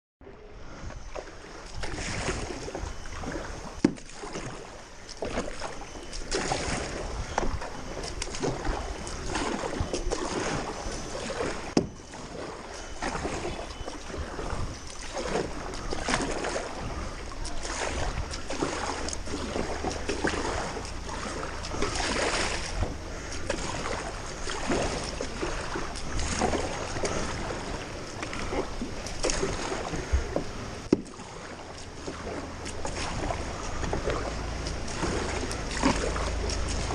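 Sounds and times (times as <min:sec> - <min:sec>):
floodwater sloshing and splashing: 0:00.2 - 0:36.9.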